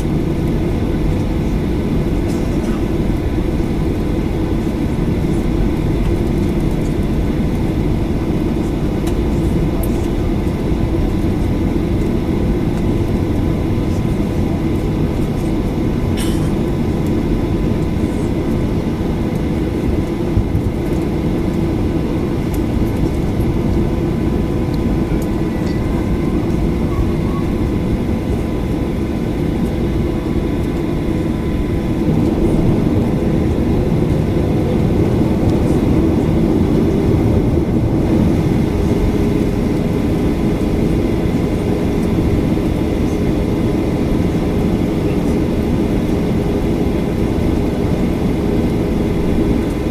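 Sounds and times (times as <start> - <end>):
jet engine cabin rumble: 0.0 - 49.9.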